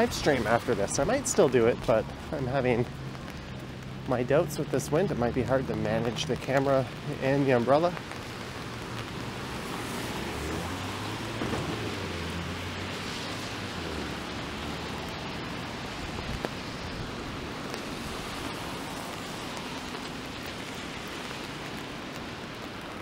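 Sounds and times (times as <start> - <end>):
rain on an umbrella: 0.0 - 23.0.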